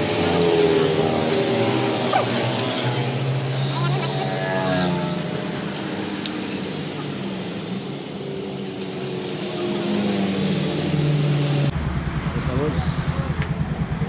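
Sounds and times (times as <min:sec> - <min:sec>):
scooter engine running: 0:00.0 - 0:14.0.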